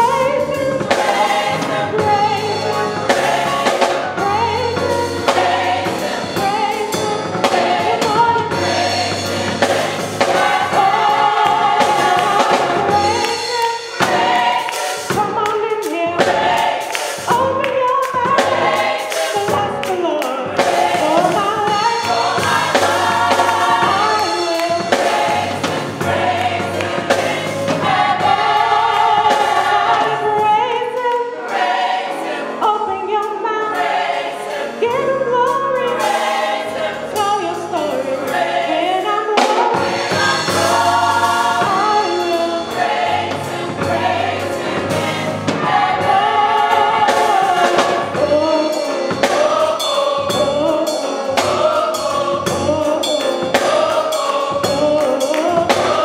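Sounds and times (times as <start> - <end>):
gospel choir singing: 0.0 - 56.0.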